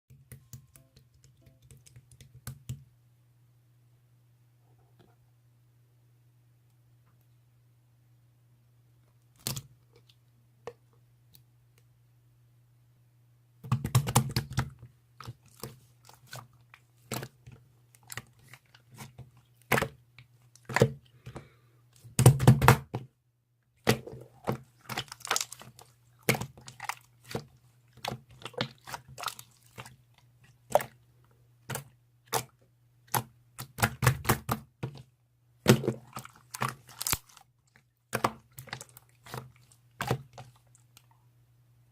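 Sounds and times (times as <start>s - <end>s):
faint low hum: 0.1s - 41.9s.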